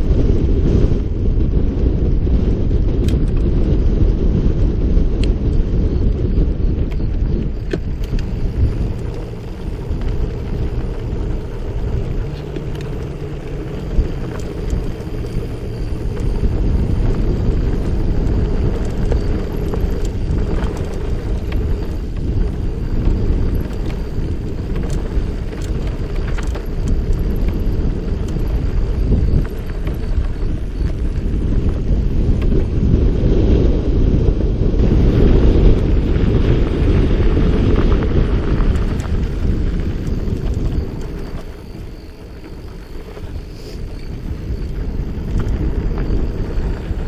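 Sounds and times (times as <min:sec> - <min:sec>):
bike clicks and rattles: 0:00.0 - 0:33.6, 0:34.6 - 0:47.0
bike tyres rolling on dirt: 0:00.0 - 0:47.0
wind rushing over microphone: 0:00.0 - 0:47.0.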